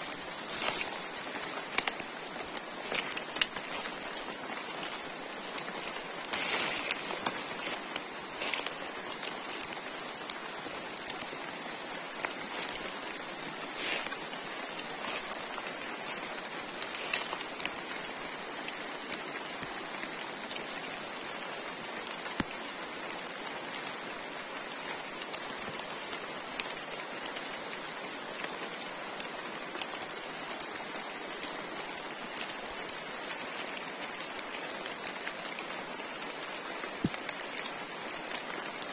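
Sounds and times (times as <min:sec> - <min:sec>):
rain dripping on foliage: 0:00.0 - 0:38.9.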